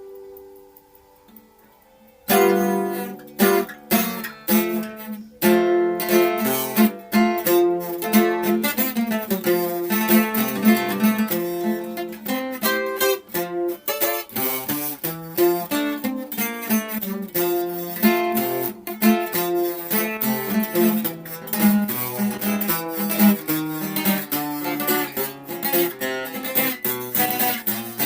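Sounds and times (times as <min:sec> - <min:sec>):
acoustic guitar strummed and plucked: 0:02.2 - 0:28.0.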